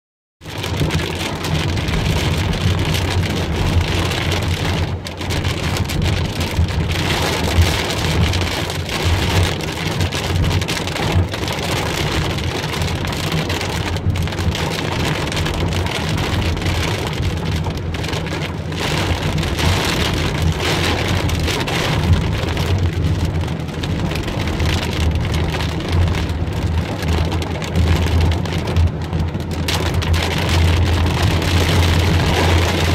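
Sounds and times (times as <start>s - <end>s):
car and tyre rumble on wet road: 0.4s - 32.9s
heavy rain on car roof: 0.4s - 32.9s.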